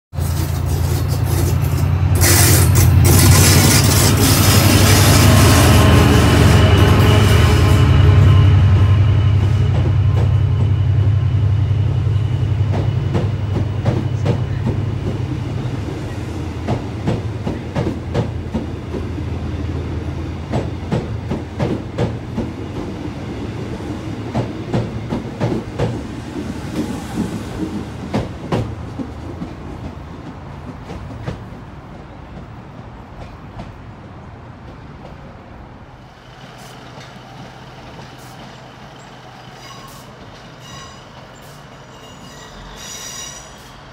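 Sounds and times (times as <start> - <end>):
train wheels clicking over joints: 0.2 - 5.7, 12.6 - 35.3, 36.2 - 43.8.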